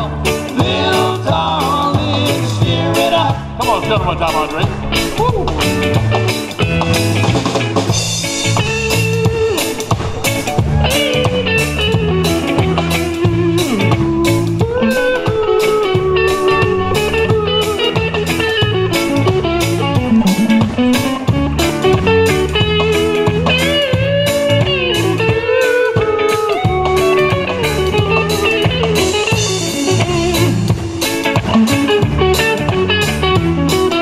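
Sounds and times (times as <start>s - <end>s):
electric bass: 0.0s - 34.0s
electric guitar lead: 0.0s - 34.0s
drum kit beat: 0.3s - 34.0s.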